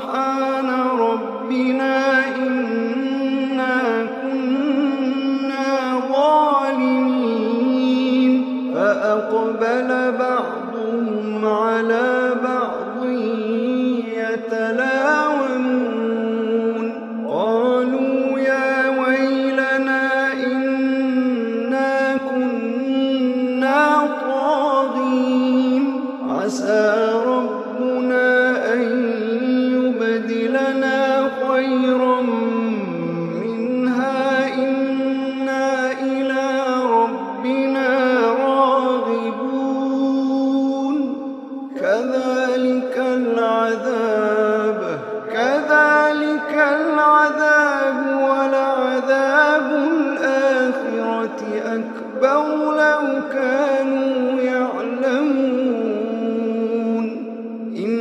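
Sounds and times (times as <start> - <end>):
man chanting melodically: 0.0 - 58.0.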